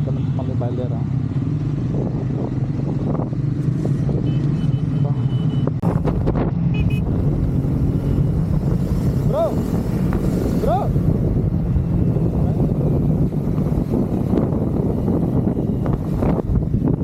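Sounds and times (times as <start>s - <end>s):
motorcycle engine running: 1.3s - 17.0s.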